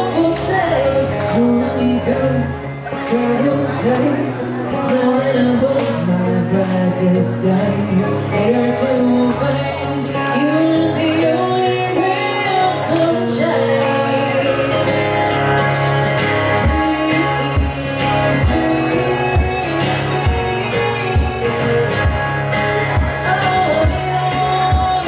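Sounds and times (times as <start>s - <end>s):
acoustic guitar strumming: 0.0s - 25.0s
woman singing: 0.0s - 25.0s.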